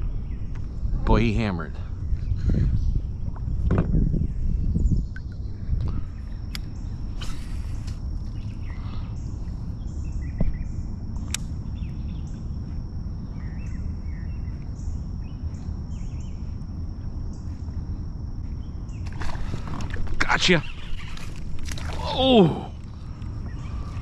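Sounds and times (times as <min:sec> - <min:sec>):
birds chirping: 0:00.0 - 0:24.0
steady low rumble: 0:00.0 - 0:24.0
high-pitched insect drone: 0:04.1 - 0:24.0.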